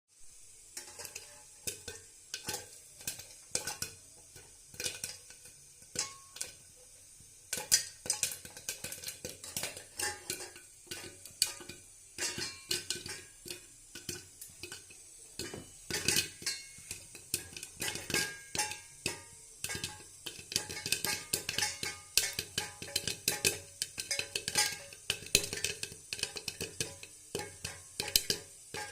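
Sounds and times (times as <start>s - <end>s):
popcorn popping in a pan: 0.1s - 28.9s.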